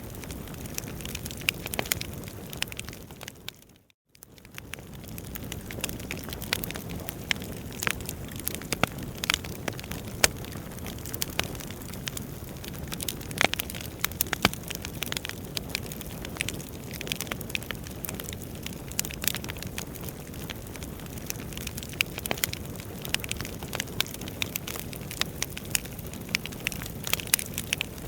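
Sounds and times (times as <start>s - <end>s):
low rush of flames: 0.0s - 3.6s, 4.2s - 28.0s
fire crackles and sharp pops: 0.0s - 28.0s.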